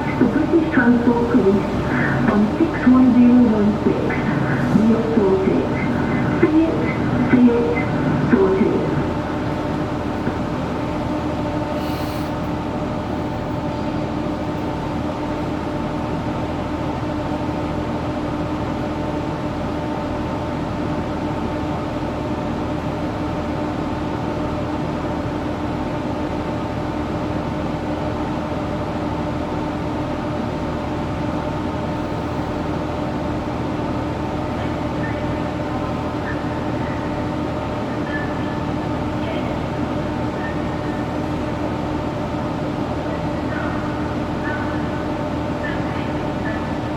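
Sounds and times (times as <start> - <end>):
multi-tone hum: 0.0 - 20.5, 27.4 - 46.9
train rumbling inside carriage: 0.0 - 46.9.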